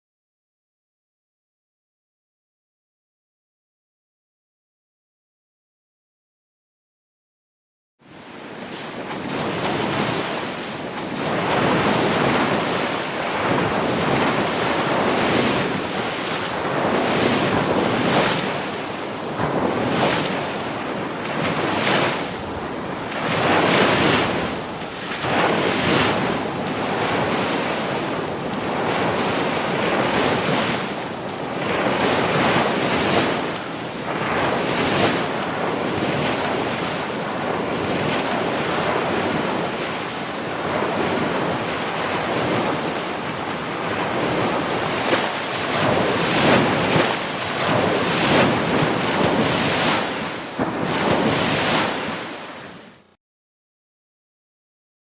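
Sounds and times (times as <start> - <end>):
ocean waves breaking: 8.1 - 53.1.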